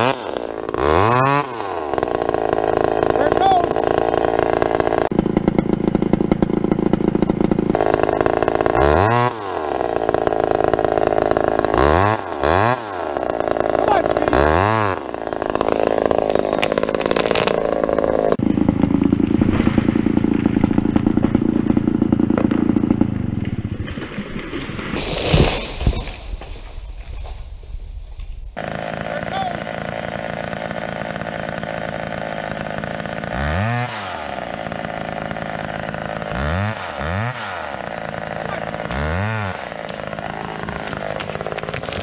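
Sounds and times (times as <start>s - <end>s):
chainsaw running at high revs: 0.0s - 23.4s, 28.6s - 42.0s.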